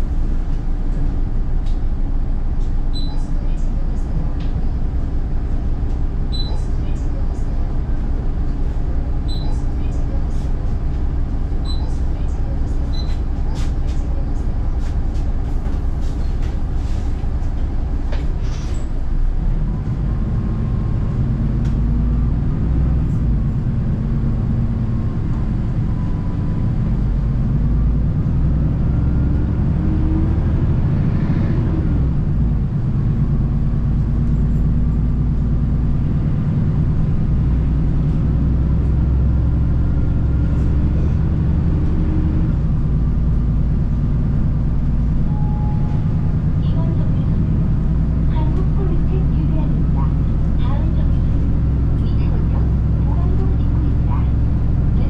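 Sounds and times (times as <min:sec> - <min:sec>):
bus engine drone and whine: 0:00.0 - 0:55.0.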